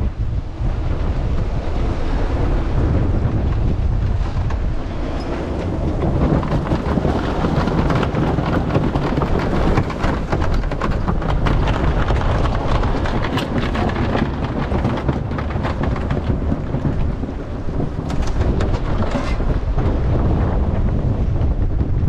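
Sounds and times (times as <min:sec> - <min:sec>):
waves rushing along hull: 0:00.0 - 0:22.0
wind buffeting microphone: 0:00.0 - 0:22.0.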